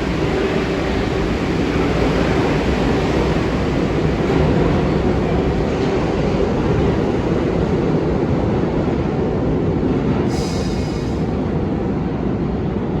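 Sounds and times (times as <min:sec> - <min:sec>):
subway train rumbling on rails: 0:00.0 - 0:13.0.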